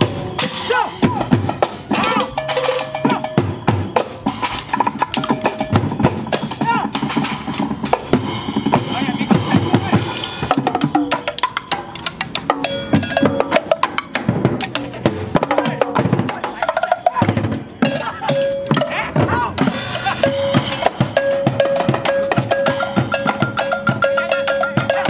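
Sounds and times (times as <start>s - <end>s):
cymbals and metal ringing: 0.0s - 25.0s
drumming on buckets and drums: 0.0s - 25.0s.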